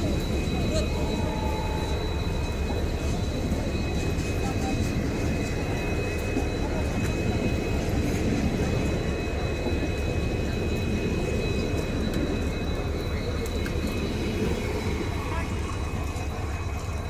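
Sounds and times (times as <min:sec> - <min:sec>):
thin high whine: 0:00.0 - 0:17.0
train coaches rumbling past: 0:00.0 - 0:17.0.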